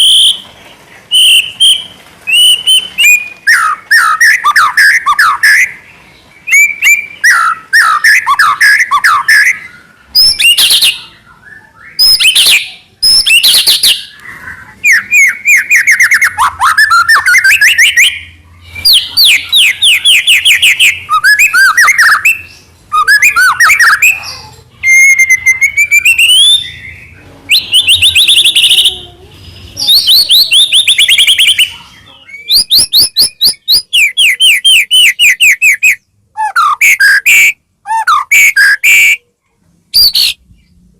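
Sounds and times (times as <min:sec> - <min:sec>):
bird singing whistles and trills: 0:00.0 - 0:00.5, 0:01.1 - 0:05.8, 0:06.4 - 0:29.0, 0:29.8 - 0:39.2, 0:39.9 - 0:40.4.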